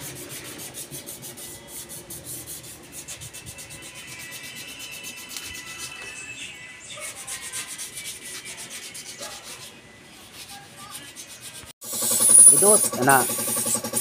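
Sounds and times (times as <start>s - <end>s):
hand sanding metal: 0.0s - 6.0s, 7.0s - 14.0s.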